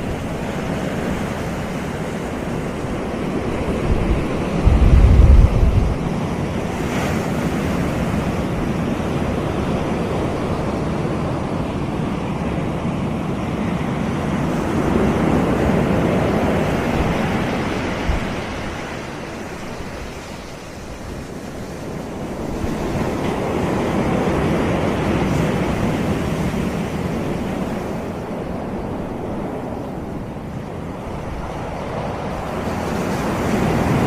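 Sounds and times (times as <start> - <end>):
waves washing onto beach: 0.0 - 34.0.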